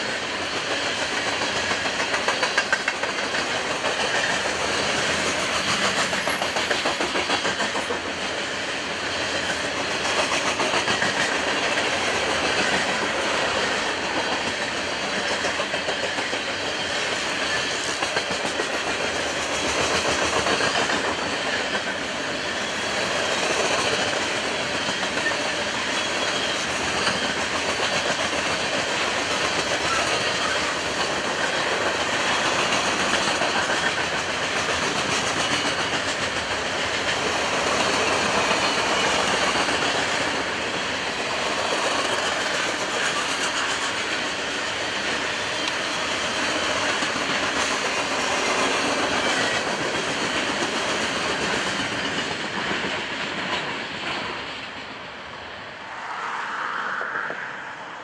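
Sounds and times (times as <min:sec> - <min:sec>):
train wheels clacking on rails: 0:00.0 - 0:55.6
train rumble: 0:00.0 - 0:58.0.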